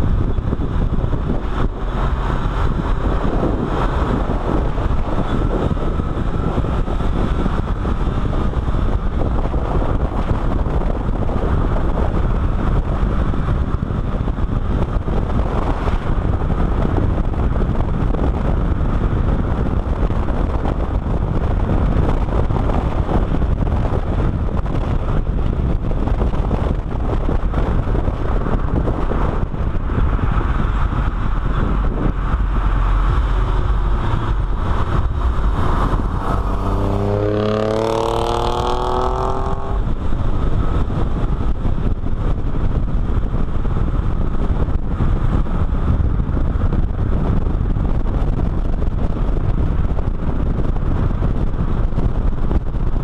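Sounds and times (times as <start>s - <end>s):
car engine accelerating: 0.0s - 47.6s
car road noise: 0.0s - 53.0s
wind buffeting on microphone: 0.0s - 53.0s.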